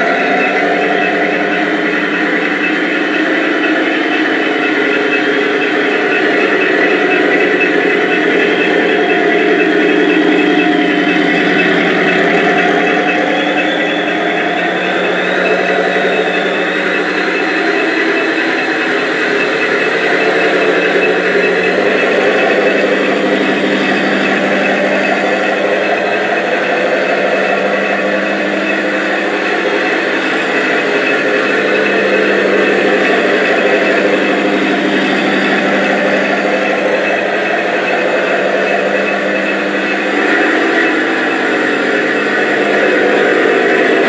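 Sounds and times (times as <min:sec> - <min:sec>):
toy truck engine sound: 0:00.0 - 0:44.0.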